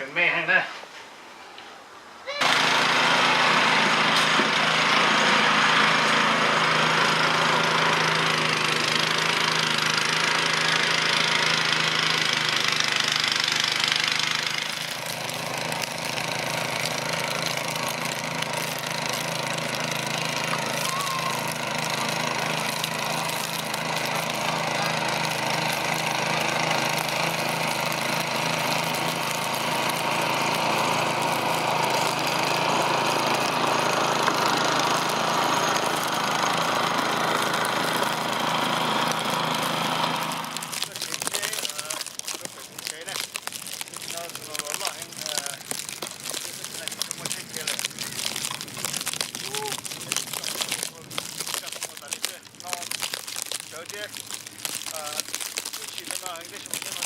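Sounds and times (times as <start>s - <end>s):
engine running: 2.4s - 57.0s.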